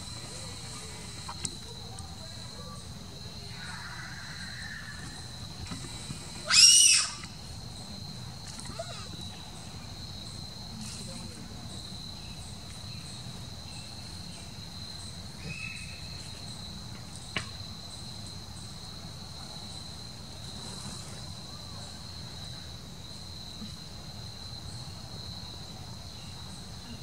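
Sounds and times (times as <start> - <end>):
insects singing: 0.0 - 27.0.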